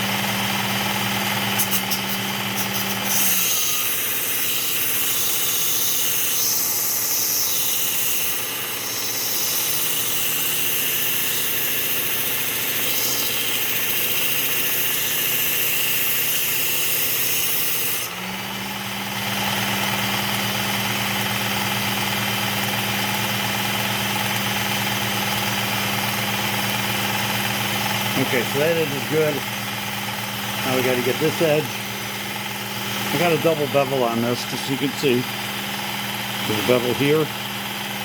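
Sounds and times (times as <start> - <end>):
belt sharpener motor running: 0.0 - 38.0.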